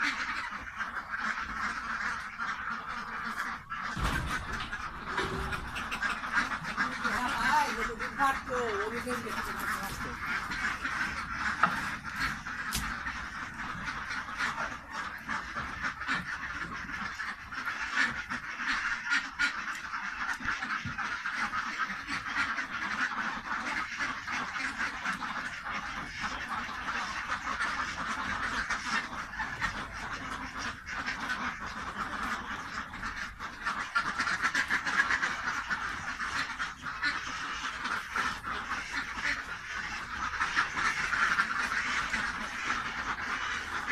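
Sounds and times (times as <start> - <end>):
ducks quacking: 0.0 - 43.9.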